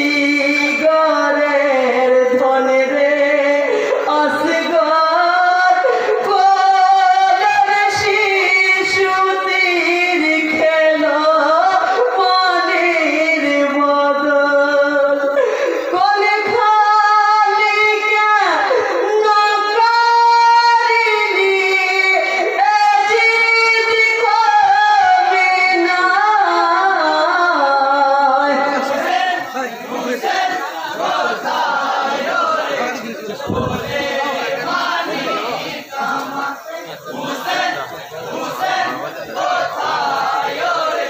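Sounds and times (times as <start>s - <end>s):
man singing through microphone: 0.0s - 41.0s.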